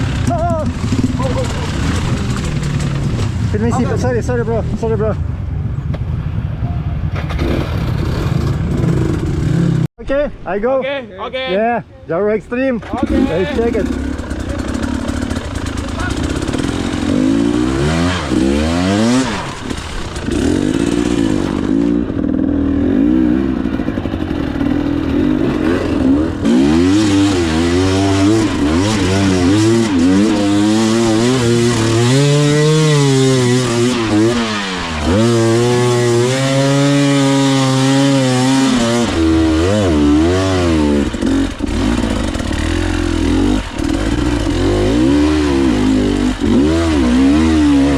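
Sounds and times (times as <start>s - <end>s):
two-stroke dirt bike engine revving: 0.0s - 5.1s, 7.2s - 9.9s, 12.8s - 47.9s.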